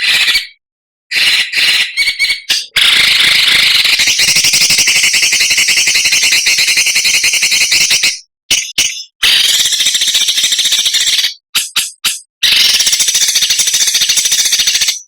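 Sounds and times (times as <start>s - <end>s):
songbird harsh rattling chatter: 1.8s - 15.0s.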